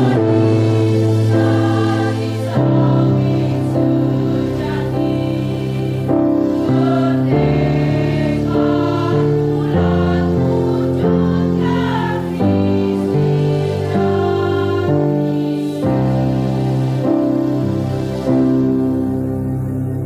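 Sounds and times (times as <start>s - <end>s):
women's choir singing in harmony: 0.0s - 20.0s.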